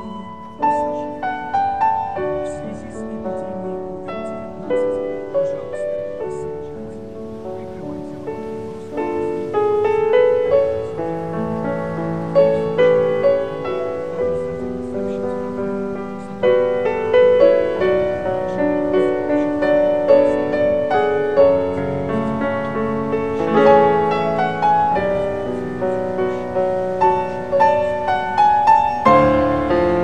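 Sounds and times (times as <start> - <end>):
piano melody: 0.0 - 30.0.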